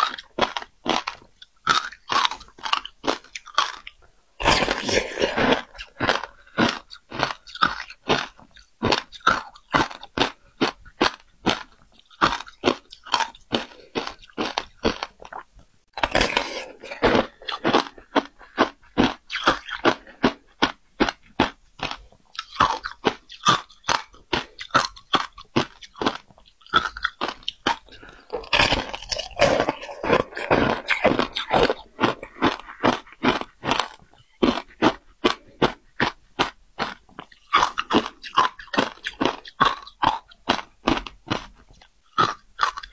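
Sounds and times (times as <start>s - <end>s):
crunching and chewing ice: 0.0s - 42.9s.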